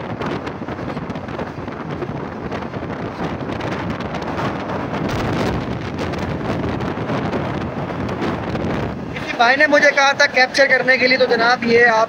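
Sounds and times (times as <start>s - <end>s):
train running noise: 0.0s - 12.0s
wind rushing on microphone: 0.0s - 12.0s.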